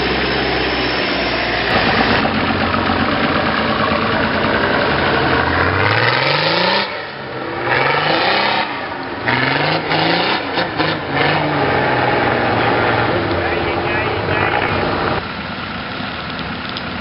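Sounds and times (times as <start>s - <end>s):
truck engine revving under load: 0.0s - 15.3s.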